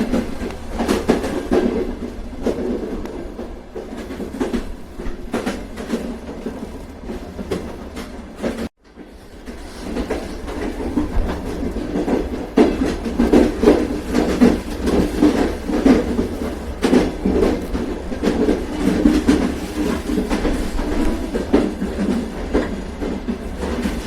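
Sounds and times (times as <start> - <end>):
train rumble: 0.0 - 24.0
train wheels clattering: 0.0 - 24.0.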